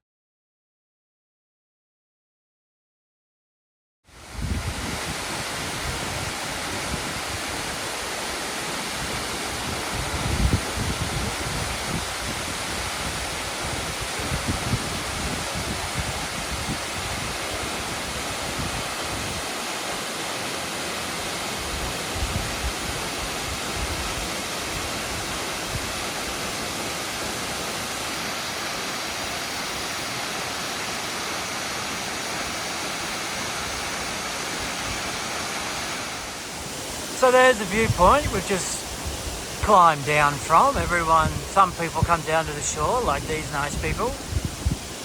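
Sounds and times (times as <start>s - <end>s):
waterfall rushing: 4.1s - 45.0s.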